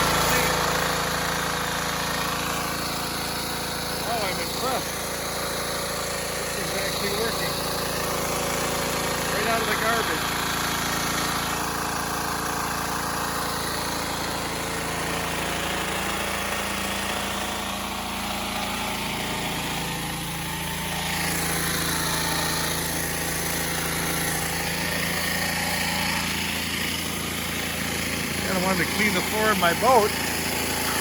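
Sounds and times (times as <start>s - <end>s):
high-pressure water jet hissing: 0.0s - 31.0s
pressure washer engine running: 0.0s - 31.0s.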